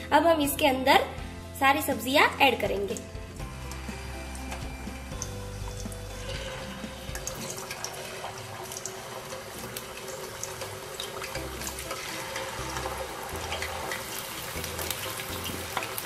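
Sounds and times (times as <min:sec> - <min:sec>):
vegetables sizzling in hot oil: 0:02.4 - 0:16.0
oil crackling and popping: 0:02.9 - 0:16.0.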